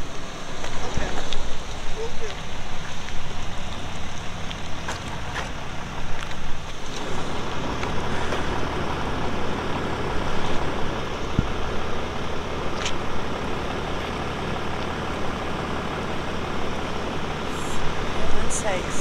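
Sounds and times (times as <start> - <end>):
rushing noise: 0.0 - 19.0
vehicle engine running: 0.0 - 19.0.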